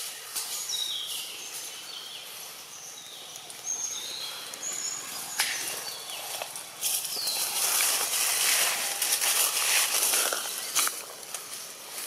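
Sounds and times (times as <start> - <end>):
birds chirping: 0.0 - 11.7
outdoor ambience hiss: 0.0 - 12.0.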